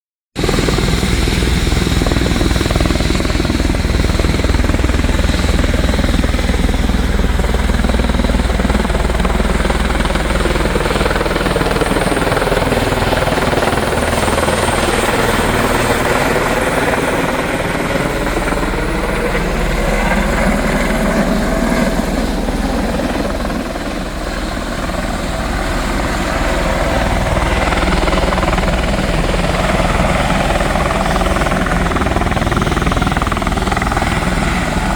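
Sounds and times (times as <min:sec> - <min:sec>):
helicopter passing: 0:00.4 - 0:34.9.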